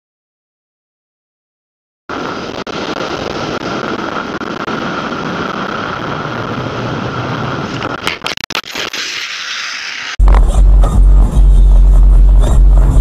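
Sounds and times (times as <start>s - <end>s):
car engine and road noise: 2.1s - 13.0s
constant whine: 2.1s - 13.0s.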